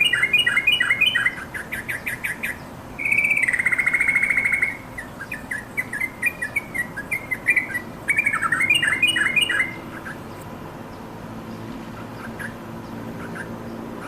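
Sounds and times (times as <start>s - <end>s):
bulbul calling: 0.0s - 14.0s.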